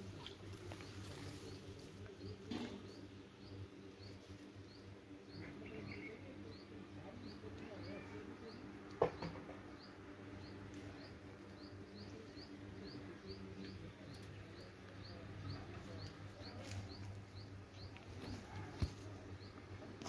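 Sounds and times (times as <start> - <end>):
bird chirping: 0.7 - 19.6.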